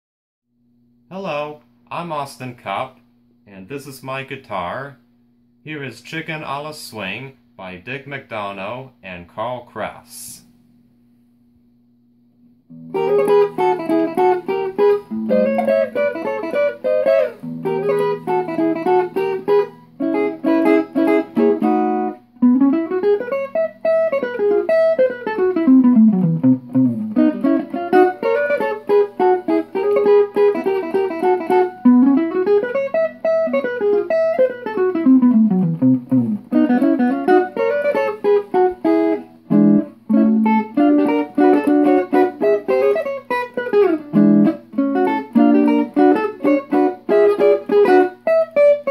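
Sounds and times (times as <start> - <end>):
solo guitar swing tune: 1.1 - 5.0, 12.7 - 48.9.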